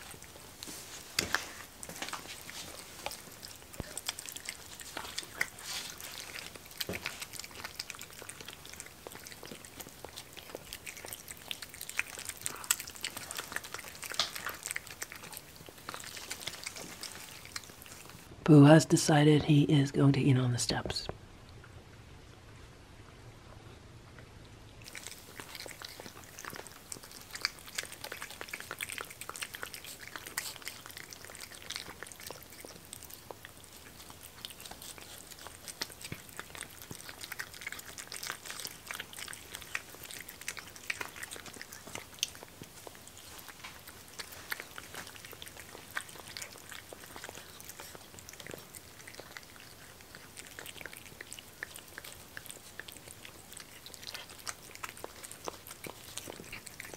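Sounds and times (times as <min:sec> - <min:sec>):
cats chewing wet food: 0:00.0 - 0:18.3, 0:24.1 - 0:56.9.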